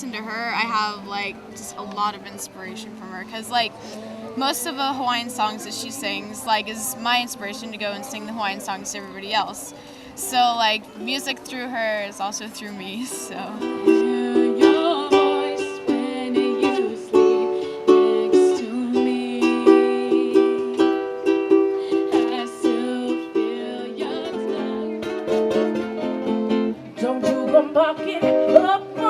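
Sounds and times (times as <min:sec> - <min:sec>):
ukulele playing: 0:00.0 - 0:09.6, 0:10.8 - 0:29.0.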